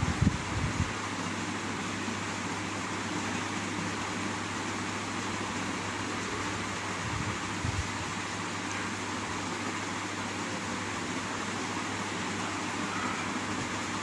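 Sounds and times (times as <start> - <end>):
electric fan running: 0.0 - 14.0.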